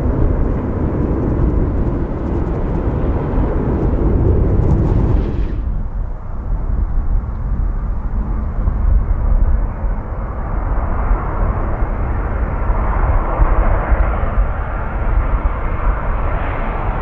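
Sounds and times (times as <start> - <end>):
jet engines running: 0.0 - 17.0
wind rumble on microphone: 0.0 - 17.0.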